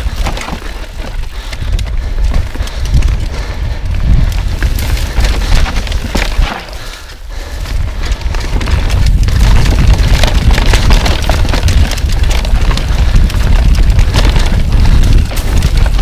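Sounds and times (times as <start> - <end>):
bike tyres rattling over rough ground: 0.0 - 16.0
wind buffeting microphone: 0.0 - 16.0.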